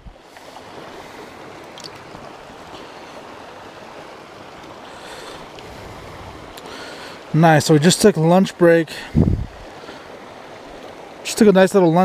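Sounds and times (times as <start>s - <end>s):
creek water rushing over stones: 0.0s - 12.0s.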